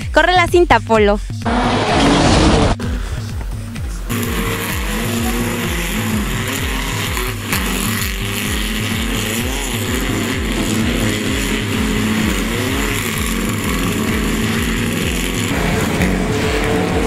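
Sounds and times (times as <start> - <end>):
low rhythmic pulse: 0.0 - 17.0
race car engines revving: 1.3 - 17.0.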